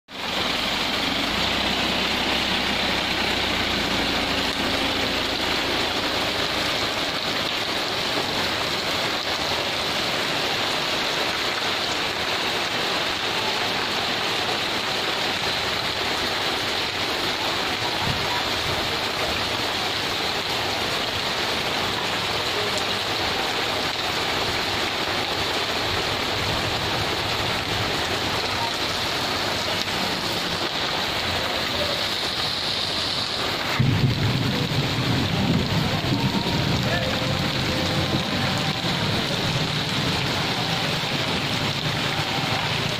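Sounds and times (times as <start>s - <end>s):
rain on wet pavement: 0.1s - 42.9s.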